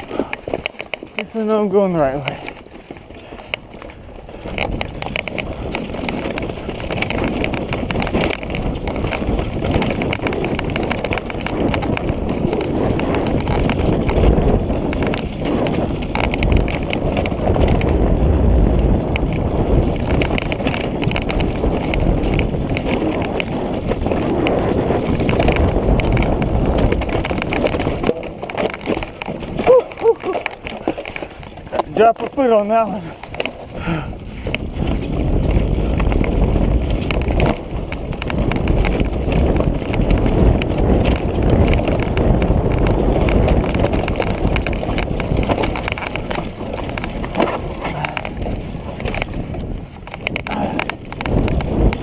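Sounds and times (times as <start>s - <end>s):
bike rattling over bumps: 0.0s - 52.0s
wind rumble on microphone: 0.0s - 52.0s.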